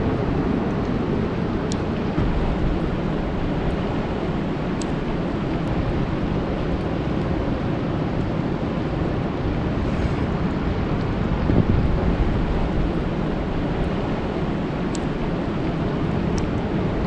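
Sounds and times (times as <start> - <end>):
deep rumble: 0.0 - 17.0
rain hissing on a lake: 0.0 - 17.0.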